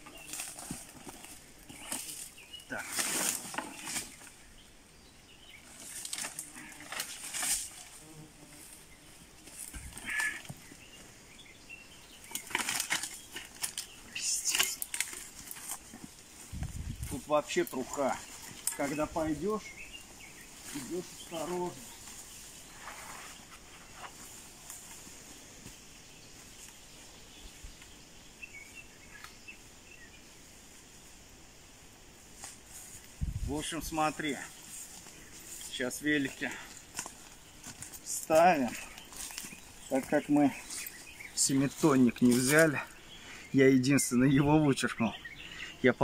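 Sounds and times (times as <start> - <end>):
faint steady hiss: 0.0 - 46.0
rustling grass and crackling twigs: 0.0 - 46.0.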